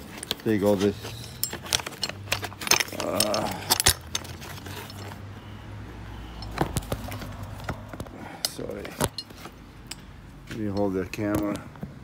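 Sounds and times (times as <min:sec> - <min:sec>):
clicks and metallic jingling: 0:00.0 - 0:05.6, 0:06.2 - 0:11.8.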